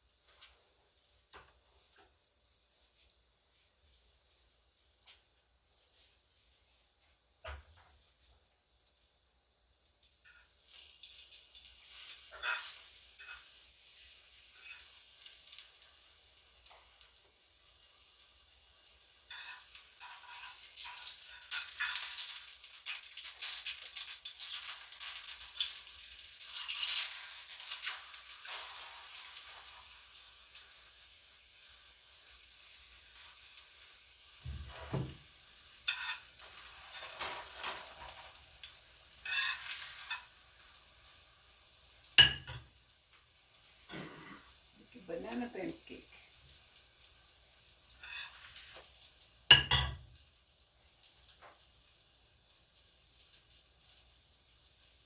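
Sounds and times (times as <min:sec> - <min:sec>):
batter sizzling in a pan: 0:00.0 - 0:55.0.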